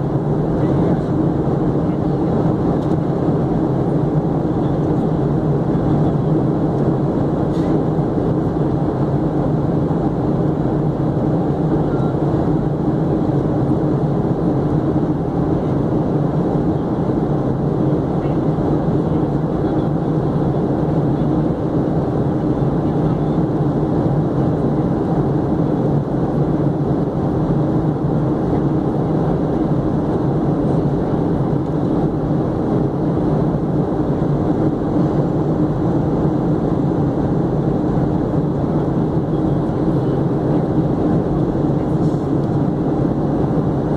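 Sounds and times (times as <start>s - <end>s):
jet cabin engine drone: 0.0s - 43.9s.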